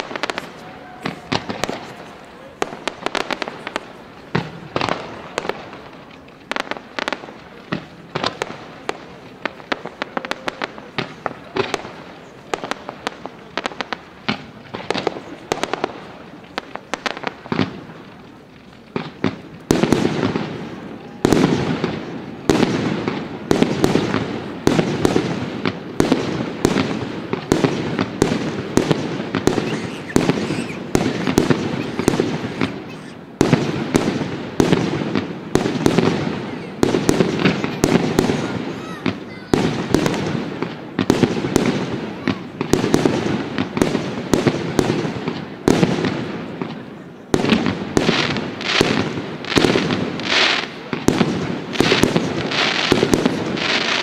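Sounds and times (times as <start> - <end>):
fireworks bursts and crackling bangs: 0.0 - 54.0.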